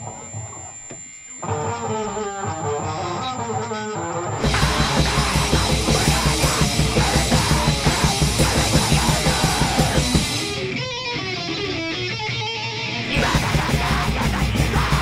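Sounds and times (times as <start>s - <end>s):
lone guitar riff: 0.0s - 15.0s
metal band playing: 1.4s - 15.0s.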